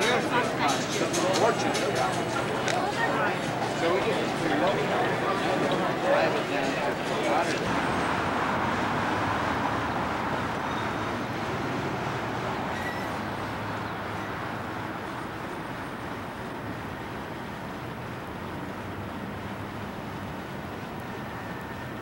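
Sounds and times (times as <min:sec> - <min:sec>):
traffic rumble and hiss: 0:00.0 - 0:22.0.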